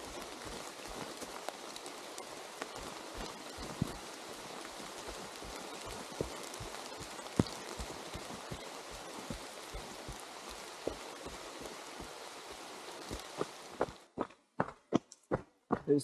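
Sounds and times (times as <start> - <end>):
rain hissing: 0.0 - 14.2
running footsteps on wet trail: 0.0 - 15.9.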